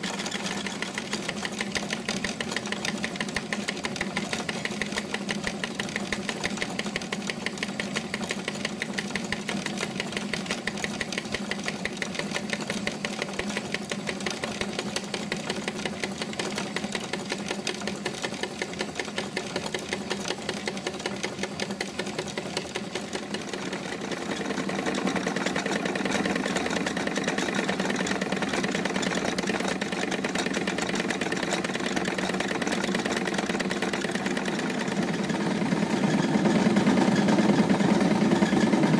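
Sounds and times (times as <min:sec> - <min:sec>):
toy steam engine clatter: 0:00.0 - 0:38.9.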